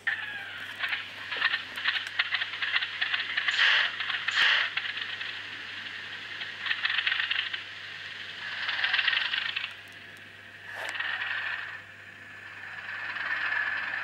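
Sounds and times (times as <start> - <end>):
model train wheels clicking: 0.0 - 11.8.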